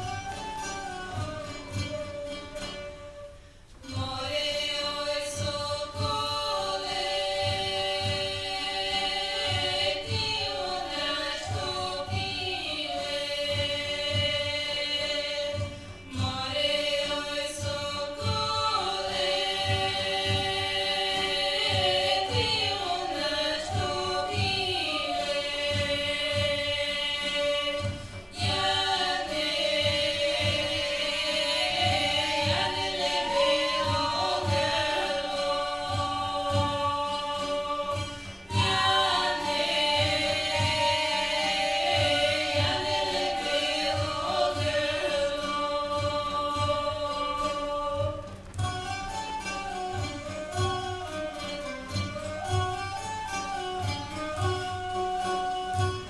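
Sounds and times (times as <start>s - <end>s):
choir singing folk music: 0.0s - 56.0s.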